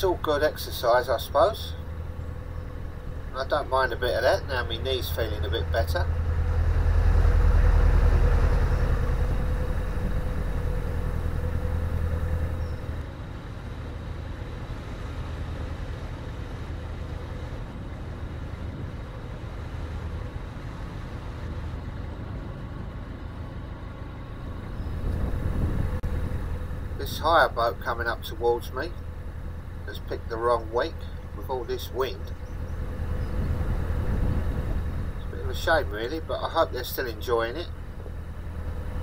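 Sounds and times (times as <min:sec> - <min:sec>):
boat engine rumbling: 0:00.0 - 0:39.0.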